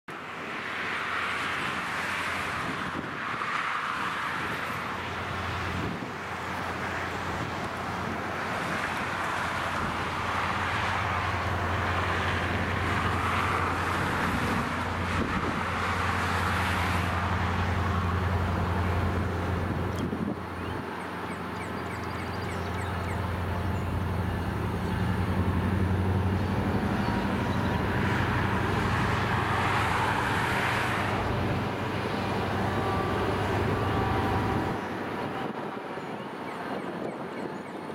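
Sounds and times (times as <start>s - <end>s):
diesel locomotive engine drone: 0.1s - 37.9s.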